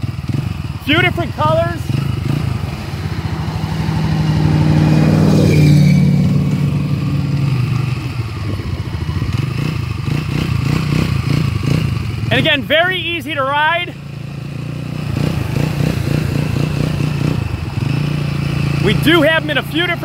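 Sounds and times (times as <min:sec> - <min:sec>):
scooter engine running: 0:00.0 - 0:20.0.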